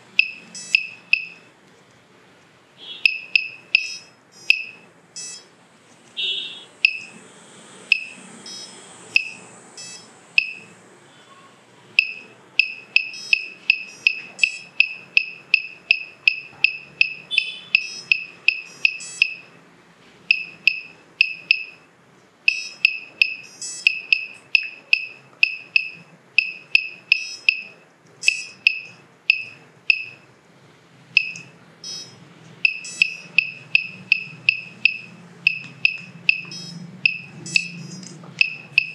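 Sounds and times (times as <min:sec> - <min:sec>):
short high buzzer beeps: 0:00.2 - 0:01.5, 0:02.8 - 0:05.5, 0:06.2 - 0:07.2, 0:07.9 - 0:19.6, 0:20.3 - 0:21.9, 0:22.5 - 0:30.2, 0:31.2 - 0:38.9.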